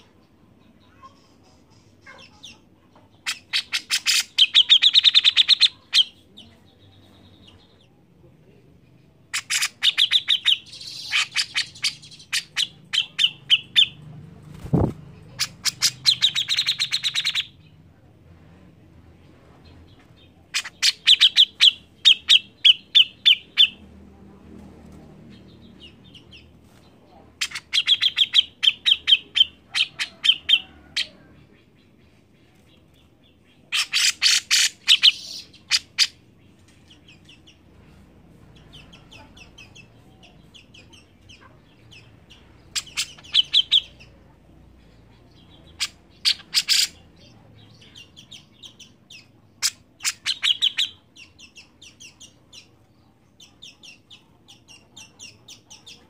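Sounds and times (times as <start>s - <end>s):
bird chattering: 0.8s - 7.9s, 9.3s - 14.0s, 14.8s - 17.7s, 20.5s - 23.8s, 27.4s - 32.1s, 33.0s - 37.7s, 38.5s - 56.0s.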